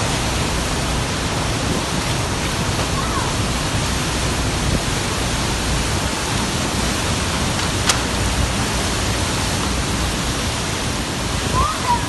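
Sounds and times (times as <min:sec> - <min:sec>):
strong wind and driving rain: 0:00.0 - 0:12.0.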